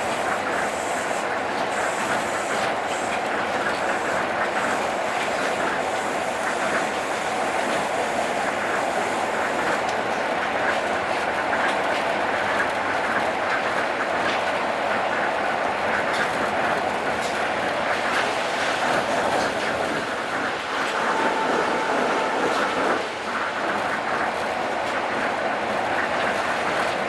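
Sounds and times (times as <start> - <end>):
monorail train rumbling: 0.0 - 27.0.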